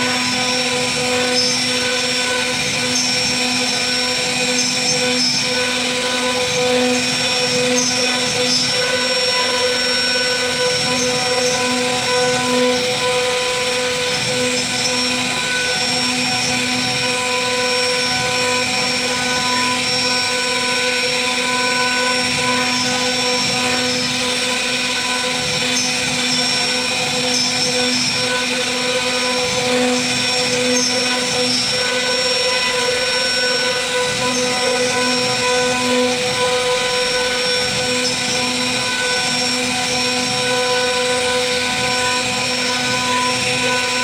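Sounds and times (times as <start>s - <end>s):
bit cutting wood: 0.0s - 44.0s
router spindle whine: 0.0s - 44.0s.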